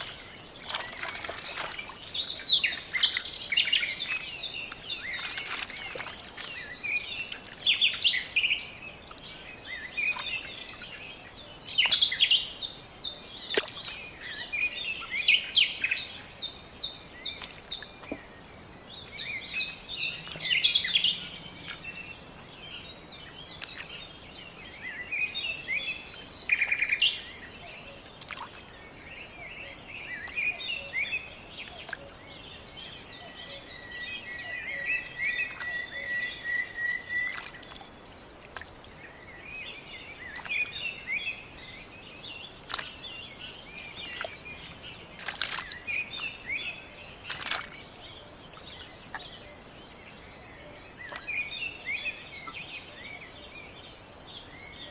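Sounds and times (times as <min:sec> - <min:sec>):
birds singing and chirping: 0:00.0 - 0:54.9
outdoor background hiss: 0:01.4 - 0:54.9.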